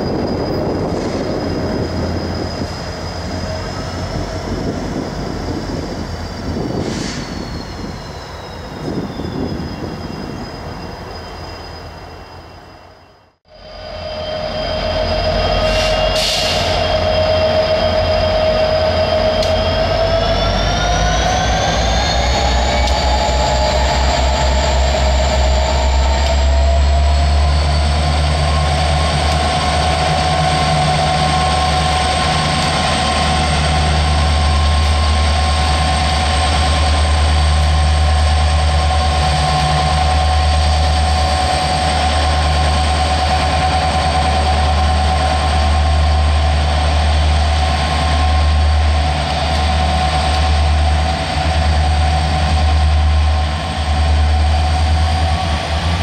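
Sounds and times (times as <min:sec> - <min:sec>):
locomotive engine rumble: 0:00.0 - 0:56.0.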